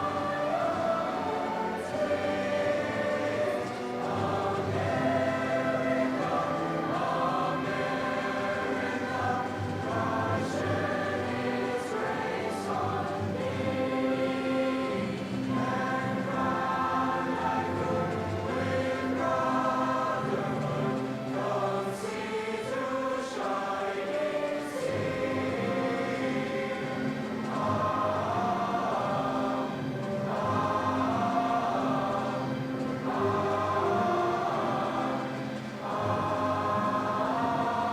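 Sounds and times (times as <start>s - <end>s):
choir singing: 0.0s - 37.9s.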